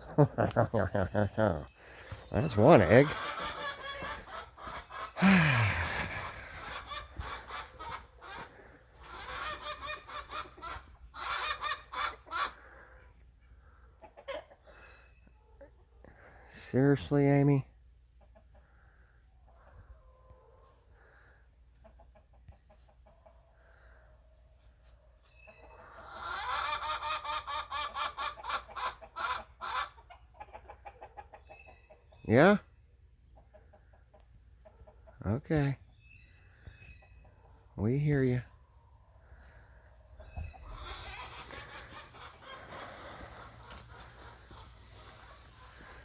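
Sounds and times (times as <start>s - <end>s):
hens clucking and squawking: 0.0s - 46.0s.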